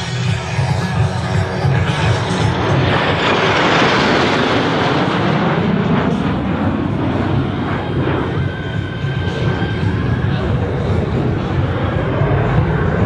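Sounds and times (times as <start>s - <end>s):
jets flying past roaring: 0.0s - 13.0s.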